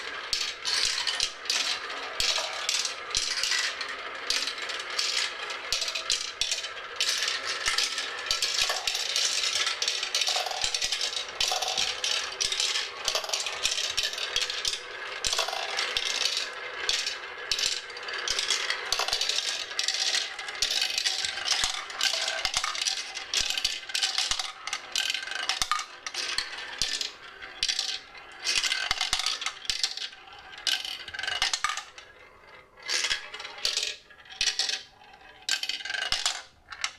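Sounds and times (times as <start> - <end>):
marbles clattering down a run: 0.1 - 36.9.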